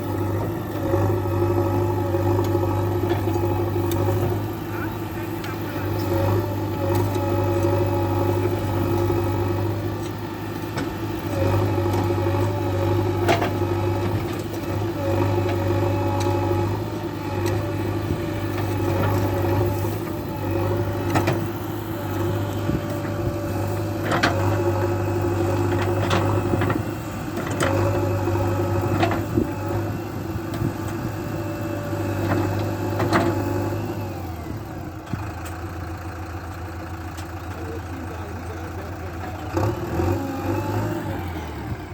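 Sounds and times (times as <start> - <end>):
engine hum: 0.0 - 41.9.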